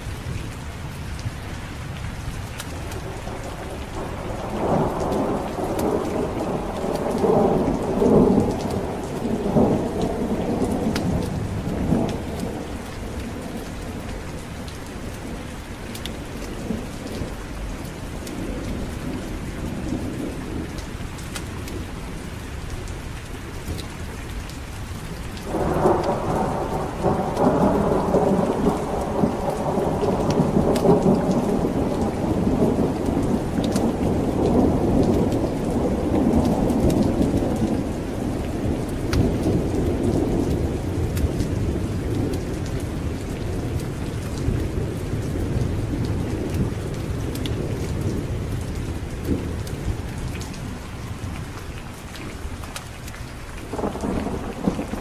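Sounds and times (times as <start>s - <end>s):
heavy rain: 0.0s - 55.0s
thunder rumbling: 2.5s - 22.0s, 25.4s - 52.0s, 53.6s - 55.0s.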